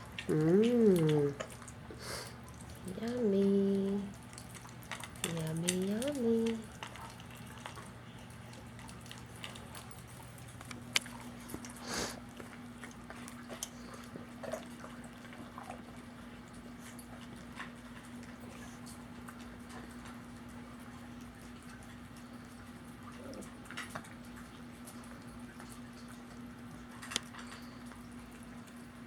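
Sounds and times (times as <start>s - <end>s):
dogs eating from bowls: 0.0s - 29.0s
faint steady hum: 0.0s - 29.0s.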